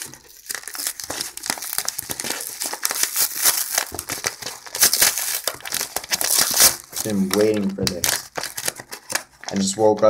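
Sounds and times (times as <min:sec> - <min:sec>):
paper envelope tearing and crinkling: 0:00.0 - 0:10.0.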